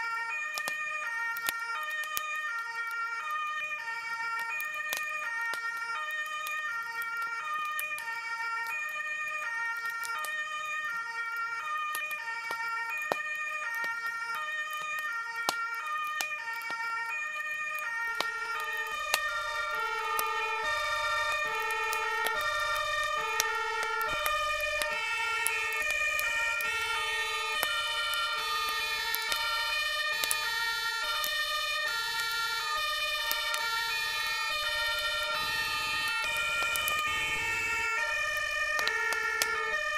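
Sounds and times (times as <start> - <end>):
low-pitched siren: 0.0 - 39.9
two-tone fire engine sirens: 0.0 - 39.9.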